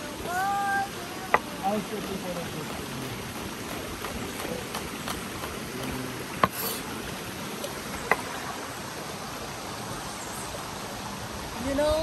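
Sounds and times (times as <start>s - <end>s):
river water running over rocks: 0.0s - 12.0s.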